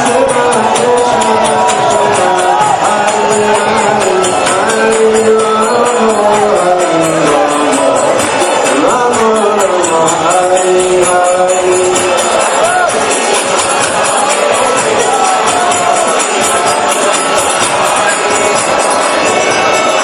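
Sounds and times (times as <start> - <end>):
devotional group singing: 0.0 - 20.0
metallic percussion beat: 0.0 - 20.0.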